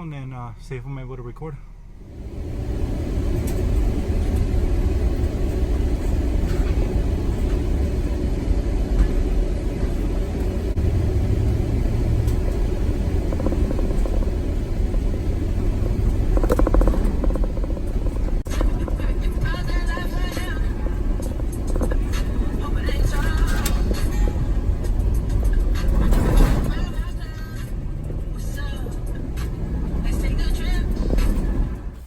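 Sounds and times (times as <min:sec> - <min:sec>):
vehicle road and engine rumble: 0:00.0 - 0:32.0.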